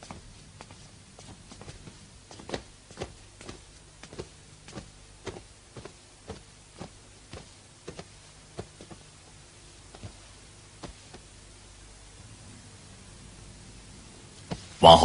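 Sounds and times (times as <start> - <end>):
footsteps walking slowly: 0.0 - 12.2
faint steady low hum: 0.0 - 15.0.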